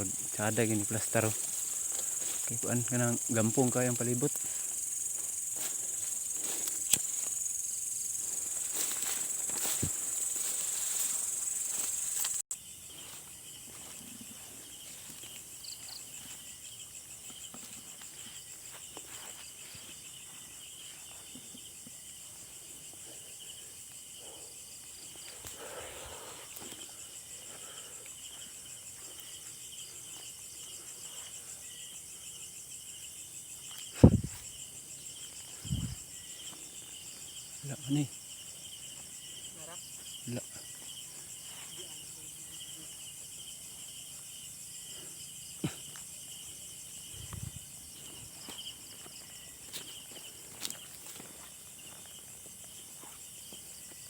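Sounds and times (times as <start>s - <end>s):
night insects chirring: 0.0s - 54.0s.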